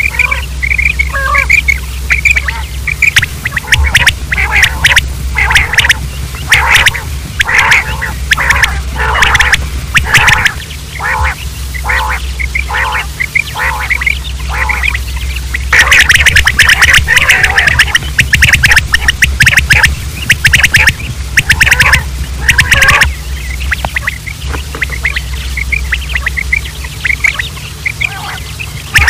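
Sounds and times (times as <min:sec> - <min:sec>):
low hum: 0:00.0 - 0:29.0
quail calling: 0:00.0 - 0:29.0.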